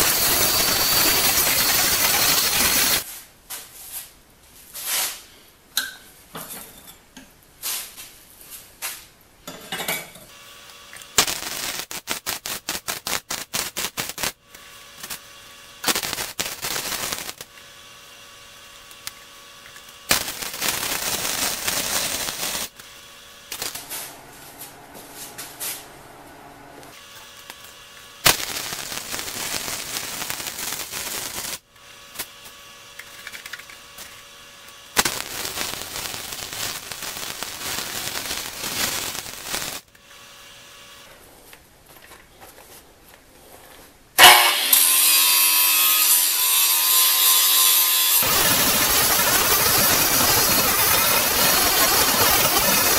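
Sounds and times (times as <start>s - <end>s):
welder crackling sizzle: 0.0s - 3.1s, 10.3s - 41.0s, 44.2s - 52.9s.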